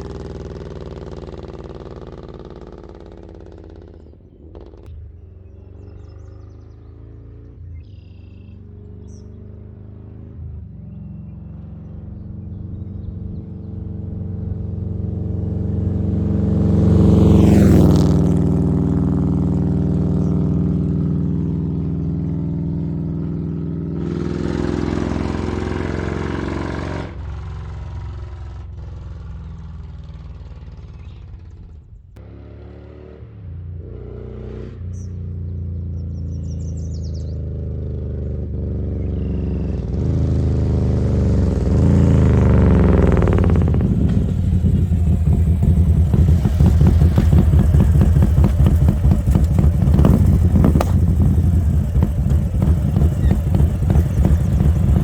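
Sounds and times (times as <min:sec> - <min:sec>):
motorcycle engine on the road: 0:00.0 - 0:55.0.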